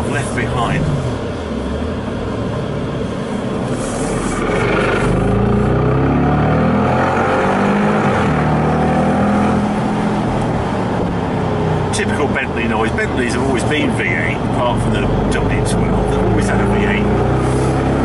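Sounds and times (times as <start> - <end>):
car engine accelerating: 0.0 - 18.0
road noise: 0.0 - 18.0.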